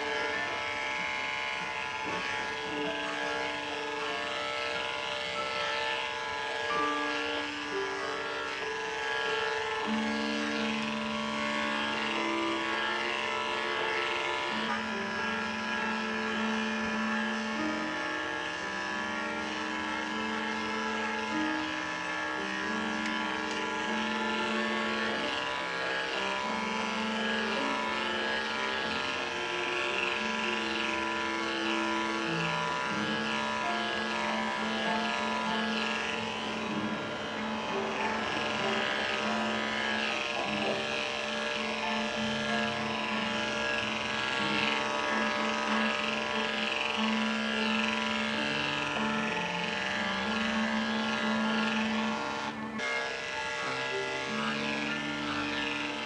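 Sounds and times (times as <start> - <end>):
melody of held notes: 0.0 - 56.0.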